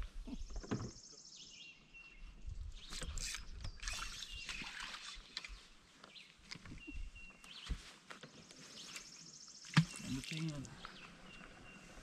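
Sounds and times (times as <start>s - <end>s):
birds whistling and trilling: 0.3s - 12.0s.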